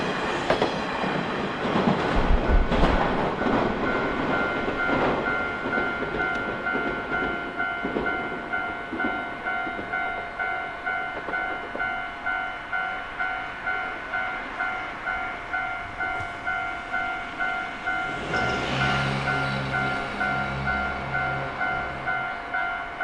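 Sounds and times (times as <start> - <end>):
train wheels rumbling on rails: 0.0 - 23.0
level crossing bell ringing: 3.4 - 23.0.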